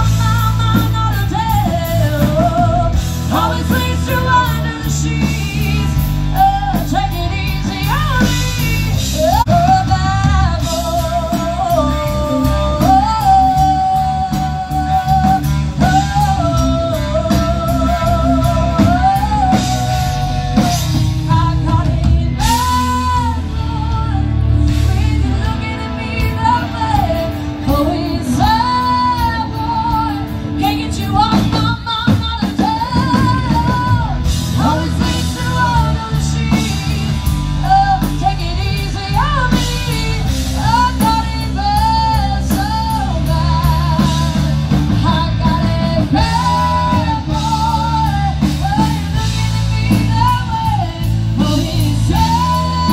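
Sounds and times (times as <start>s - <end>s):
bending lead guitar melody: 0.0s - 52.9s
live rock band playing: 0.0s - 52.9s.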